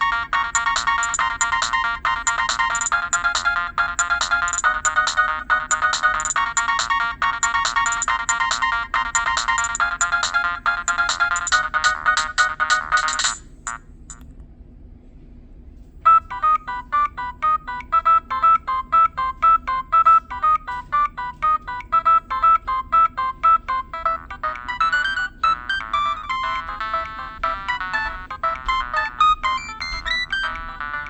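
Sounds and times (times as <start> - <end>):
electronic phone ringtone: 0.0 - 13.8, 16.1 - 31.0
faint hum: 0.0 - 31.0.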